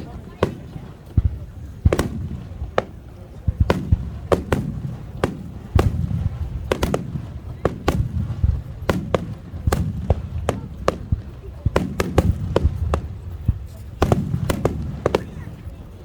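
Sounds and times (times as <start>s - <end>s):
fireworks bursting with echo: 0.0s - 16.0s.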